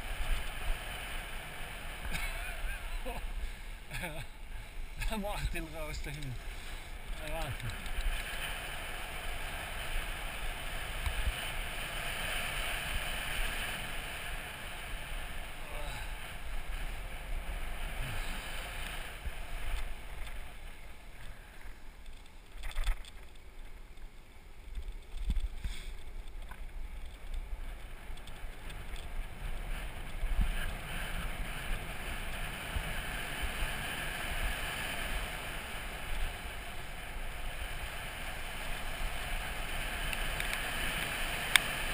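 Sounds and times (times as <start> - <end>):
board wheels rolling on asphalt: 0.0 - 41.9
wind rushing over camera: 0.0 - 41.9.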